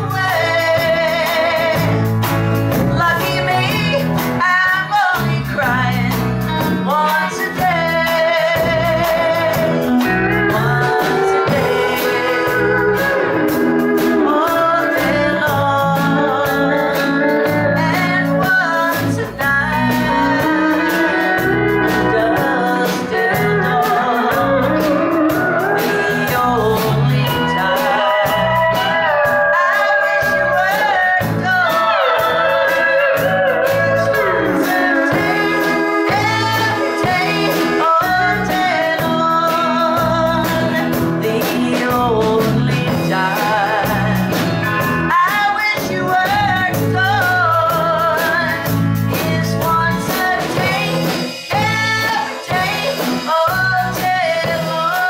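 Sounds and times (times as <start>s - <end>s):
country band playing live: 0.0s - 55.0s.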